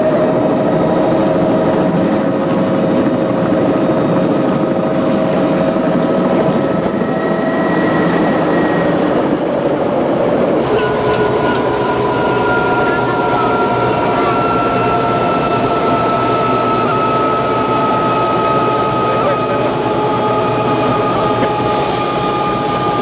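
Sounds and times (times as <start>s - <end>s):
helicopter engine and rotor noise: 0.0s - 23.0s
whining tones: 0.0s - 23.0s.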